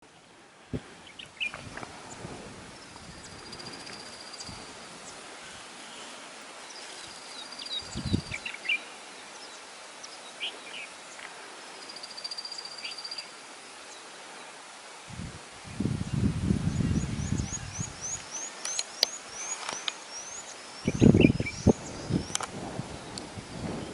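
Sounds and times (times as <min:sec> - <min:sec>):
insect hiss: 0:00.0 - 0:23.9.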